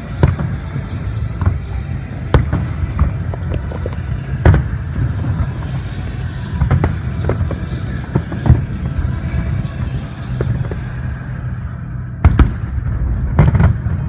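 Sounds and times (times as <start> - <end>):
fireworks shells bursting: 0.0 - 11.3
steady low rumble: 0.0 - 14.0.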